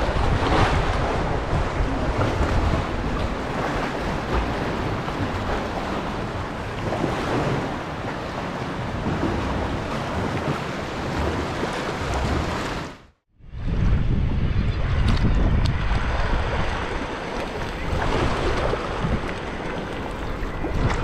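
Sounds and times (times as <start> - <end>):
sea water lapping and splashing: 0.0 - 13.2, 15.0 - 21.0
wind rumbling on microphone: 0.0 - 21.0.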